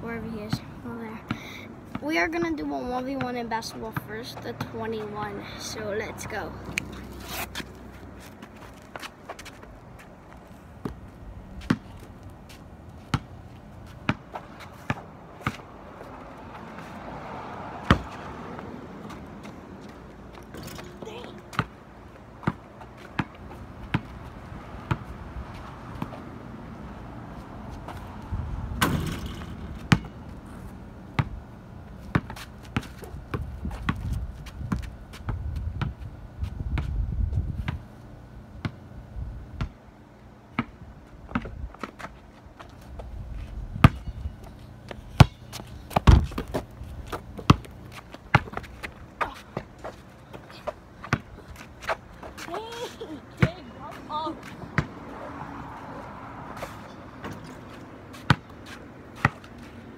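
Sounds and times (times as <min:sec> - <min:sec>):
basketball bouncing on asphalt: 0:00.0 - 0:37.9, 0:38.6 - 0:39.0, 0:39.6 - 0:39.8, 0:40.4 - 0:59.9.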